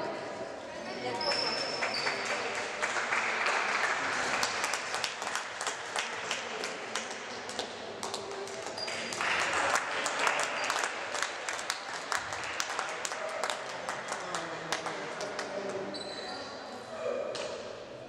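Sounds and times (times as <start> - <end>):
spectators clapping: 1.2 - 15.8.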